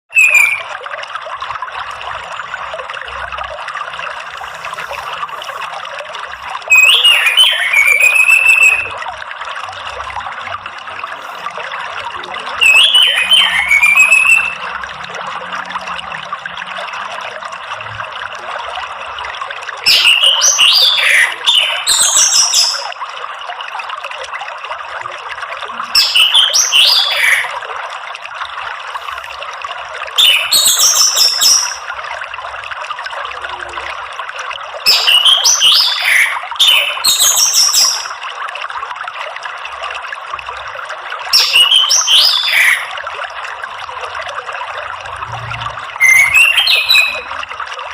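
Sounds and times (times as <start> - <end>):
trickling running water: 0.1 - 47.9.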